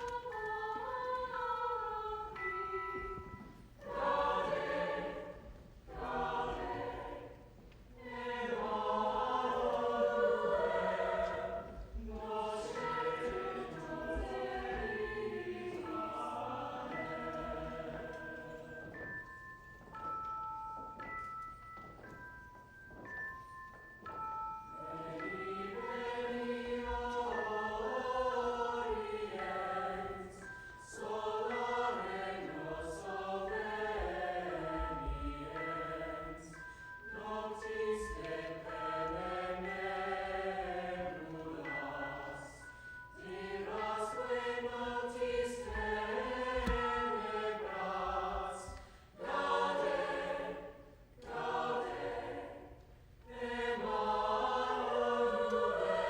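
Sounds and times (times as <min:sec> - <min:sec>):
choir singing: 0:00.0 - 0:19.5, 0:24.1 - 0:56.0.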